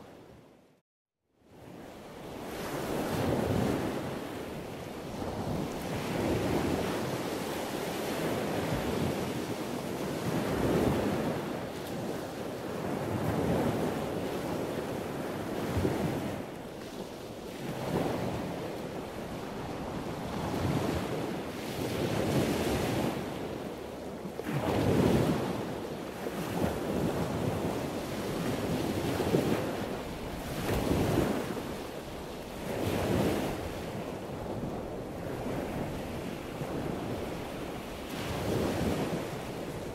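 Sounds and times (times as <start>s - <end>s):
wind rushing over microphone: 2.3s - 23.8s, 24.4s - 39.9s.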